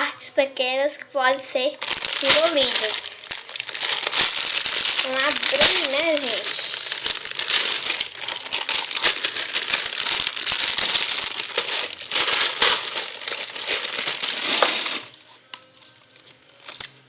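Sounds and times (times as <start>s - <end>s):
packaging crinkling: 1.8s - 17.0s.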